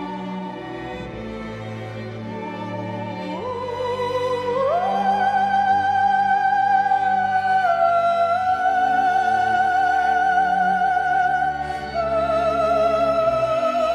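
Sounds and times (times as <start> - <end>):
slow classical music: 0.0 - 13.9.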